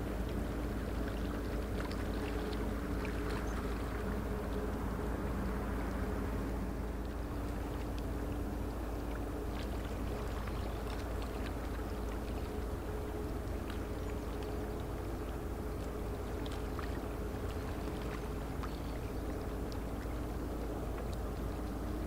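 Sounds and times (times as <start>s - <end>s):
ship diesel engine humming: 0.0s - 22.0s.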